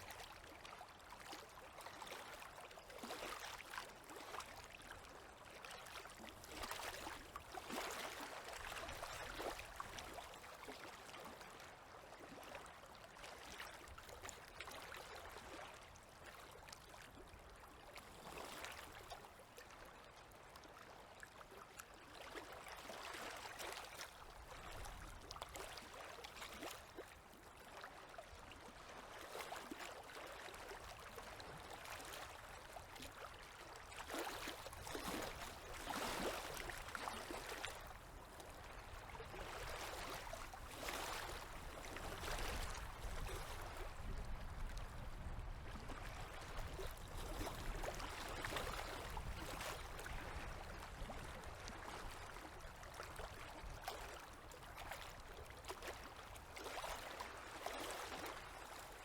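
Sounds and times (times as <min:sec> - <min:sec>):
river water lapping at shore: 0:00.0 - 0:59.0.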